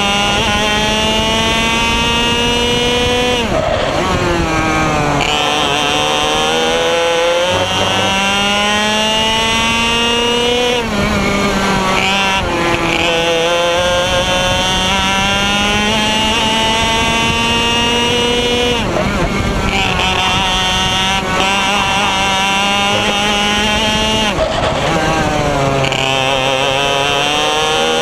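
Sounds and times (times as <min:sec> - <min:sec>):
kart engine at full throttle: 0:00.0 - 0:28.0.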